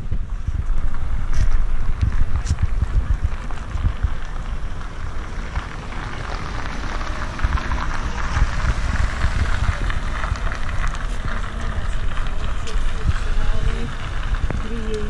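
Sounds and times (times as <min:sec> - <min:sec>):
crackling hiss: 0:00.0 - 0:15.0
wind on microphone: 0:00.0 - 0:15.0.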